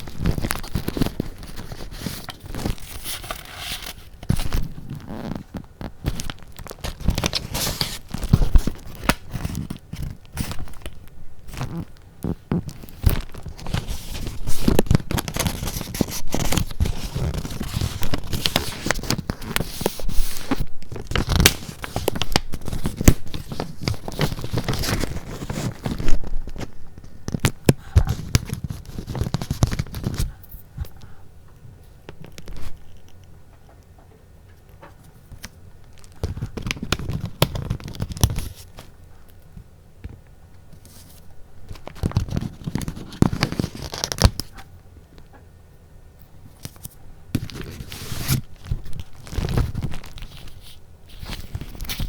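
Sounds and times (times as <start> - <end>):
paper rustling and crinkling: 0.0 - 31.2, 34.8 - 39.0, 40.8 - 44.7, 46.5 - 52.0.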